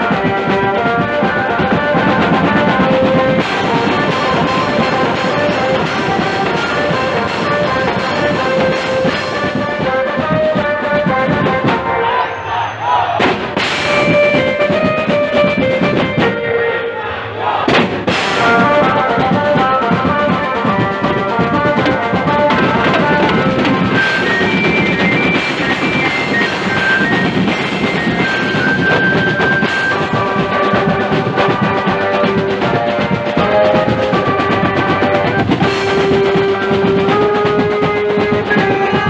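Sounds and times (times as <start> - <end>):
melody of held notes: 0.0 - 12.2, 18.1 - 39.0
snare drums and cymbal: 0.0 - 12.3, 13.1 - 16.4, 17.6 - 39.0.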